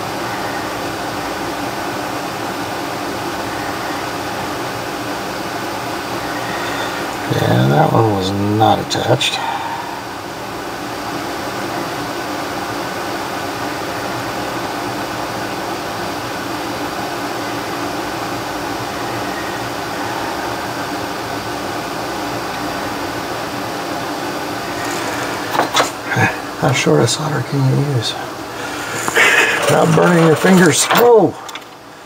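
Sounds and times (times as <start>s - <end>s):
faint hum tones: 0.0s - 32.0s
fan air whooshing: 0.0s - 32.0s.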